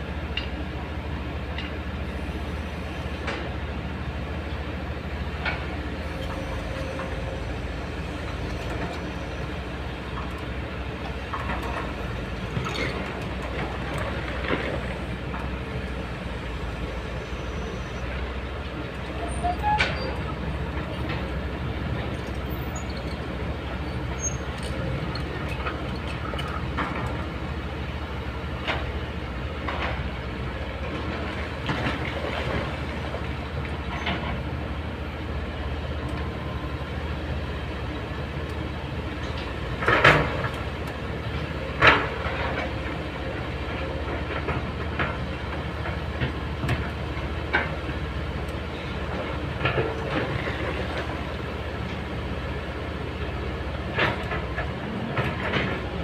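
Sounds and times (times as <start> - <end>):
clanks of steel tracks and bucket: 0.0 - 56.0
excavator diesel engine running: 0.0 - 56.0.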